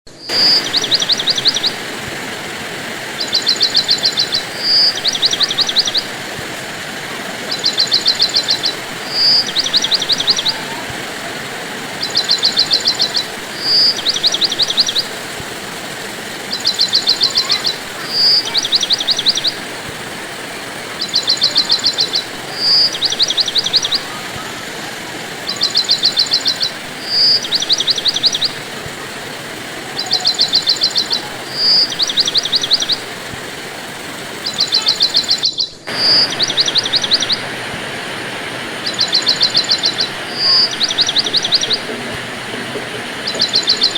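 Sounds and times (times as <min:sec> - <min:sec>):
bird trilling: 0:00.1 - 0:43.9
rain hissing: 0:00.1 - 0:43.9.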